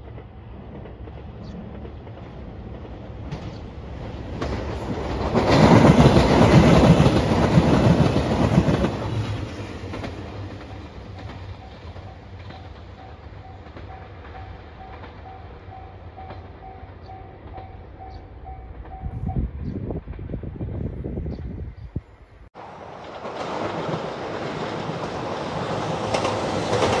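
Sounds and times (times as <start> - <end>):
diesel train passing: 0.0 - 27.0.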